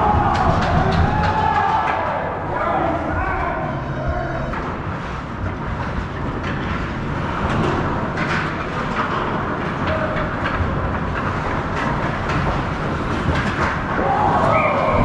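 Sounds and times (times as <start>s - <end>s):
hockey sticks and puck clacking: 0.0s - 3.3s, 4.5s - 15.0s.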